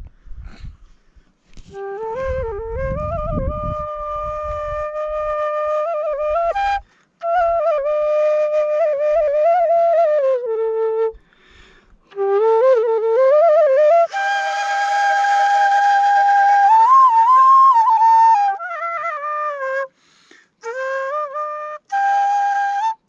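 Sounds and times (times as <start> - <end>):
bamboo flute melody: 1.5 - 23.0.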